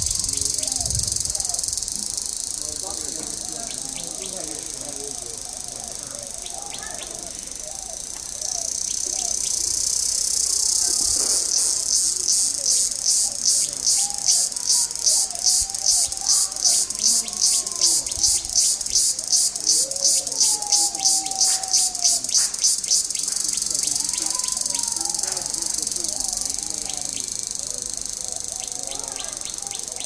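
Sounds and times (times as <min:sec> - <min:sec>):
high-pitched insect buzzing: 0:00.0 - 0:30.0.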